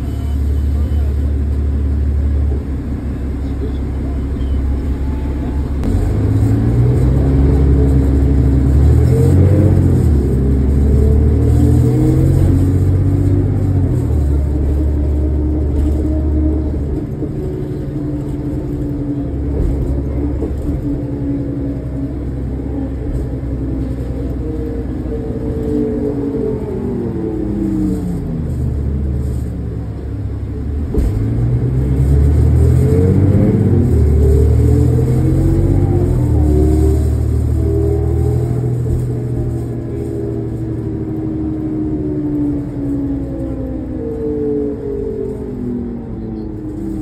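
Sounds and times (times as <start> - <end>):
bus engine drone: 0.0 - 47.0.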